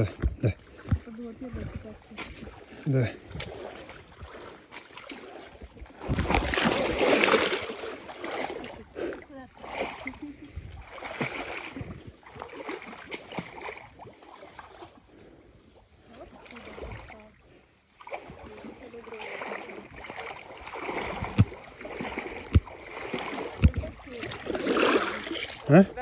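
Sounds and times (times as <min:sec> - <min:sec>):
water splashing in stream: 0:00.0 - 0:26.0.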